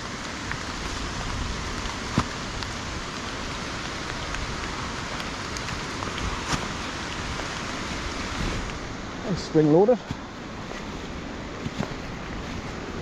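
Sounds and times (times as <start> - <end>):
raindrops ticking close by: 0.0 - 13.0
steady rain falling: 0.0 - 13.0.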